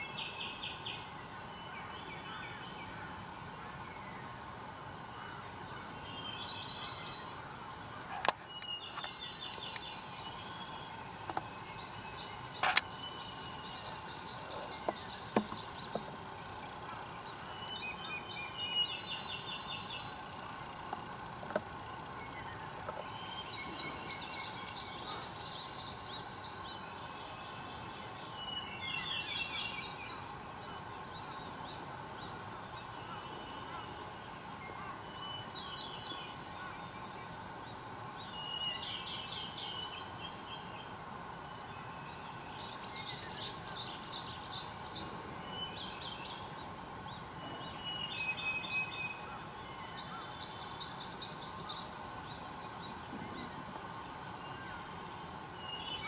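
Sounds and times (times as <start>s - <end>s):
birds singing trills: 0.0s - 56.0s
faint background hum: 0.0s - 56.0s.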